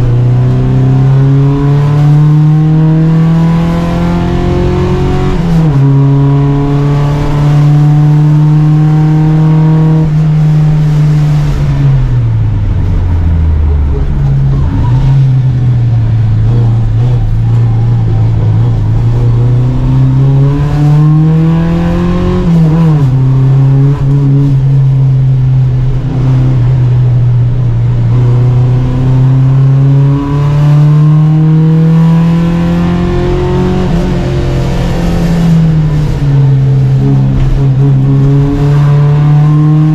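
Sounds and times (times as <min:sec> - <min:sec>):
car engine under racing load: 0:00.0 - 0:39.9.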